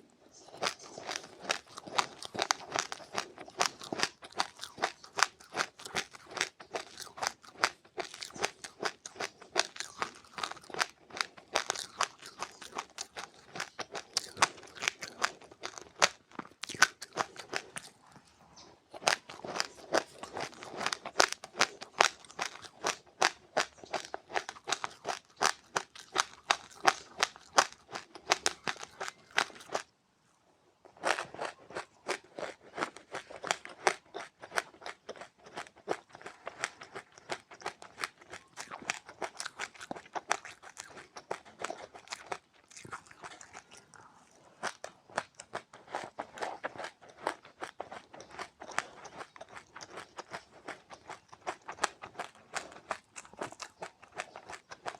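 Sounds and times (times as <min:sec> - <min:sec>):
seeds crunching while chewed: 0:00.0 - 0:29.9, 0:30.8 - 0:54.9.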